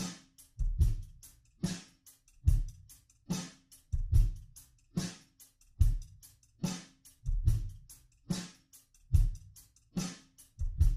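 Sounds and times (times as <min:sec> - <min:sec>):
slow drum beat: 0:00.0 - 0:10.9.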